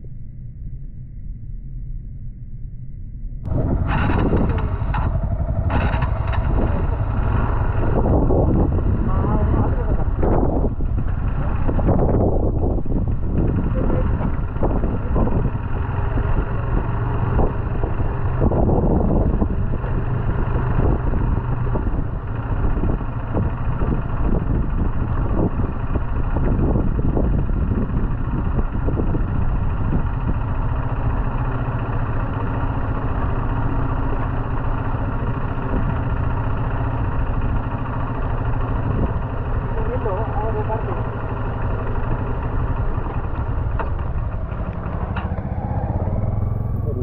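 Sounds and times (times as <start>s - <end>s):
motorcycle engine running: 3.4s - 47.0s.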